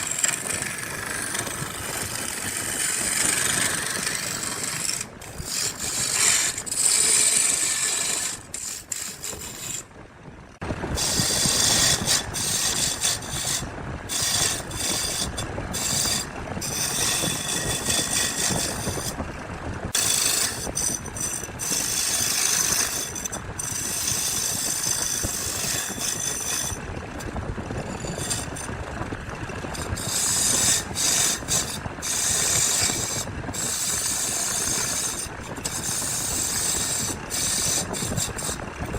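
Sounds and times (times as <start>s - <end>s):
woodworking tool on wood: 0.0s - 10.0s, 10.6s - 19.2s, 19.8s - 38.9s.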